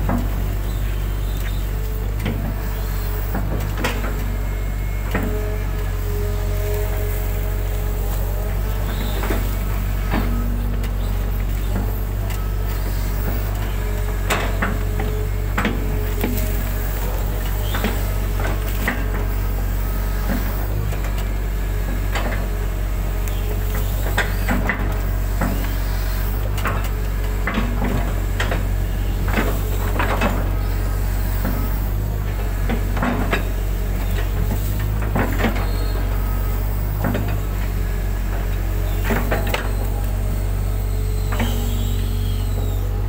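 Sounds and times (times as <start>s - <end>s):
diesel engine humming: 0.0s - 43.0s.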